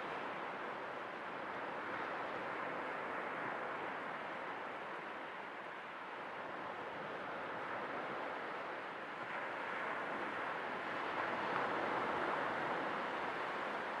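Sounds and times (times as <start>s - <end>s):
sea waves washing on shore: 0.1s - 14.0s.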